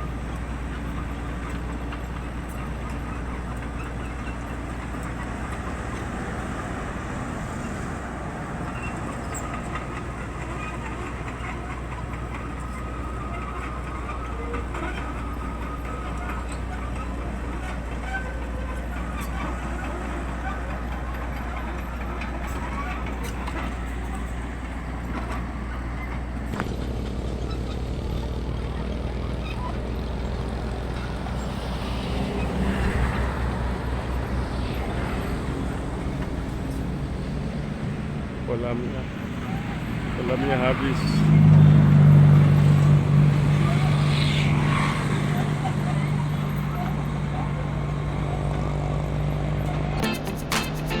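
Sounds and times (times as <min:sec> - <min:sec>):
excavator diesel engine running: 0:00.0 - 0:51.0.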